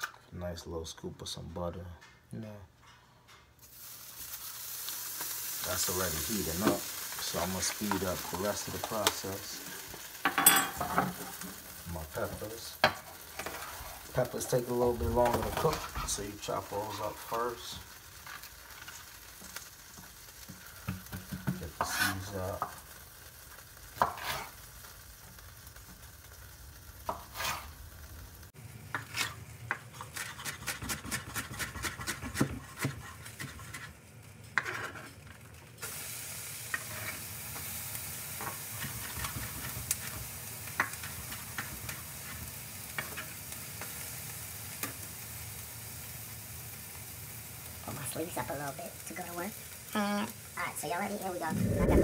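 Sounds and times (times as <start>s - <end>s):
butter sizzling in frying pan: 3.6s - 51.5s.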